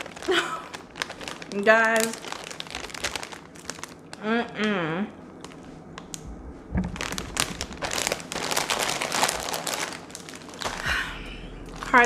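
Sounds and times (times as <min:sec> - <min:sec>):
chip bag crinkling: 0:00.0 - 0:04.2, 0:05.4 - 0:12.0.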